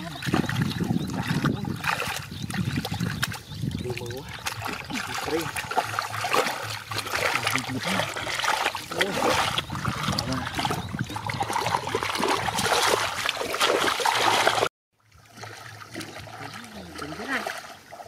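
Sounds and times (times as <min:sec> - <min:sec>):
muddy water splashing and sloshing: 0:00.0 - 0:18.0.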